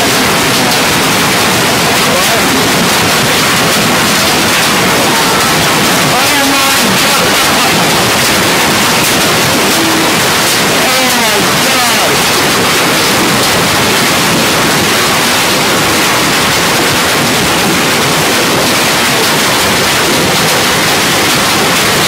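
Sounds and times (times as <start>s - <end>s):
hail and heavy rain pelting: 0.0s - 22.0s.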